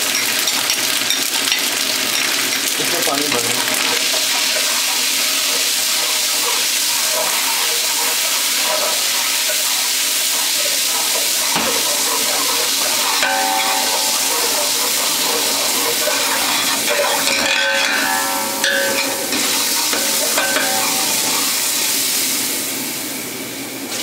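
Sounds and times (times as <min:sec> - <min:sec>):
paste sizzling in oil: 0:00.0 - 0:24.0
stirring in pot: 0:01.5 - 0:21.8.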